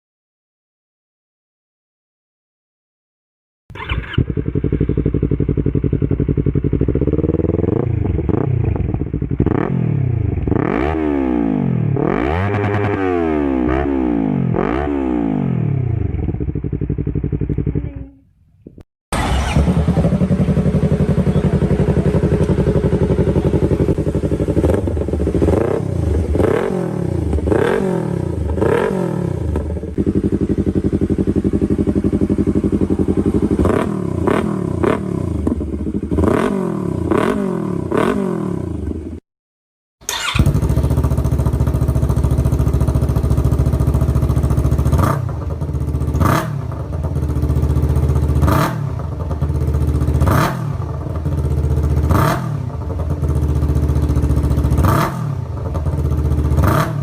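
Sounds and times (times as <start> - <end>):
motorcycle engine idling and revving: 3.7 - 39.2, 40.0 - 57.0.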